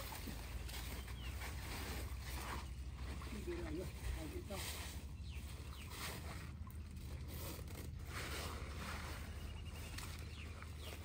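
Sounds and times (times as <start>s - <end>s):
mesh net rustling and scraping: 0.0s - 11.0s.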